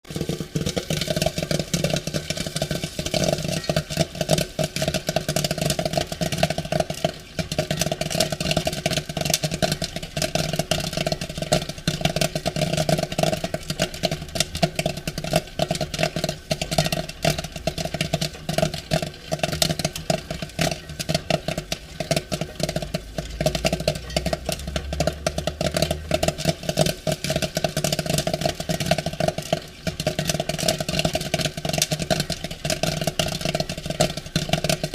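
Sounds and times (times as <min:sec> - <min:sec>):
popcorn popping: 0:00.0 - 0:34.9.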